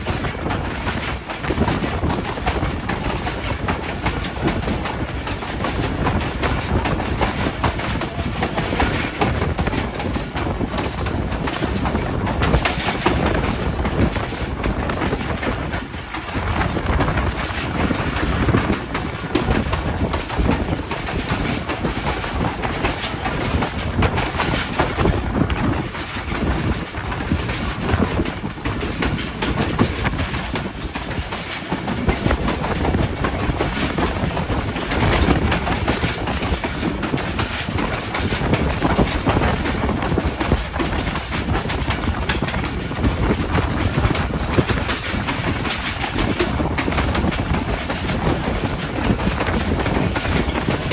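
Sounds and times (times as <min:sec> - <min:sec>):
passenger train rumbling and rattling: 0:00.0 - 0:50.9.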